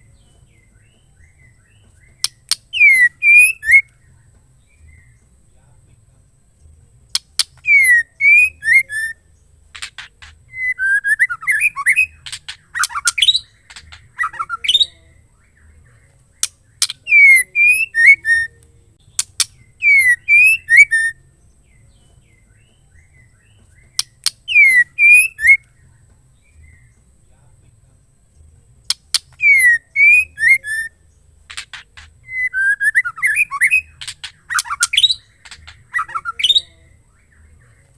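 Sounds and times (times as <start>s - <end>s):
bird calling with ticks and whistles: 0.0s - 5.3s, 7.1s - 27.1s, 28.9s - 37.9s.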